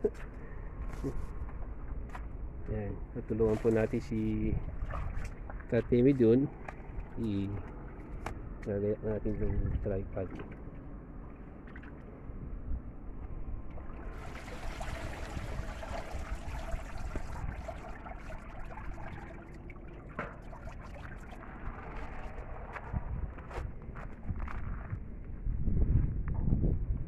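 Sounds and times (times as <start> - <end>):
wind rumble on microphone: 0.0 - 19.5, 20.4 - 27.0.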